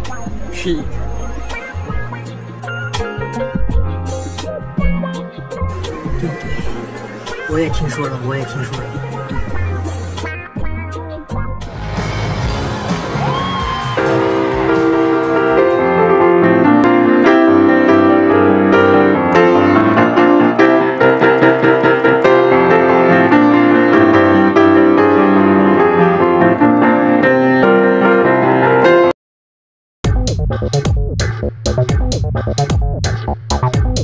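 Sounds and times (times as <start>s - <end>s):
keyboard chords over a beat: 0.0s - 29.1s, 30.0s - 34.0s.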